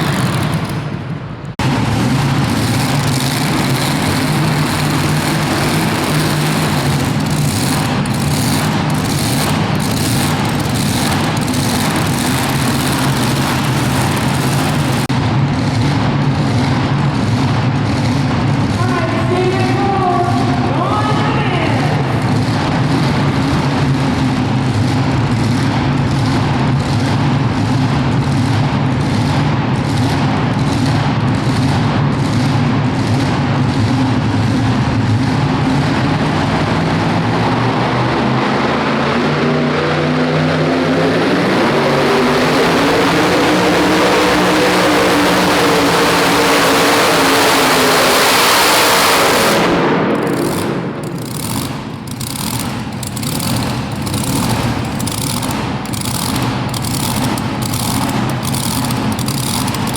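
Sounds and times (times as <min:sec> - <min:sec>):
pulling truck engine at full throttle: 0:00.0 - 0:59.9.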